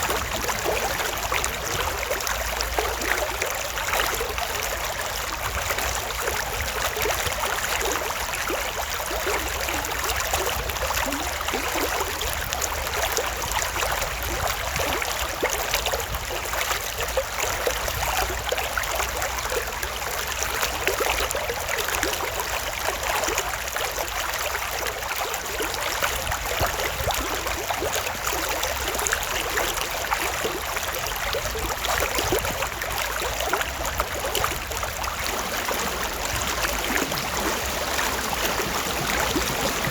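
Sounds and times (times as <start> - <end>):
creek water rushing and trickling: 0.0 - 39.9.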